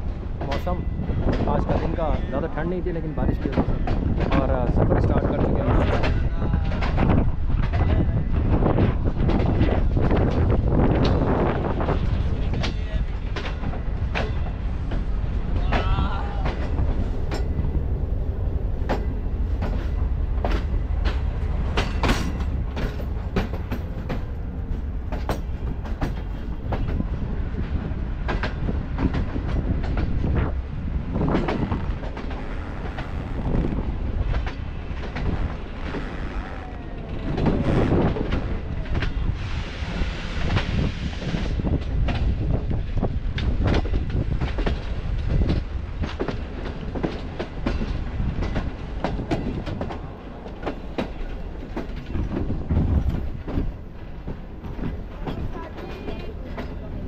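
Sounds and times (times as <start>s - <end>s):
train rumbling: 0.0s - 57.0s
wheels clicking over rail joints: 0.3s - 39.4s, 40.4s - 57.0s.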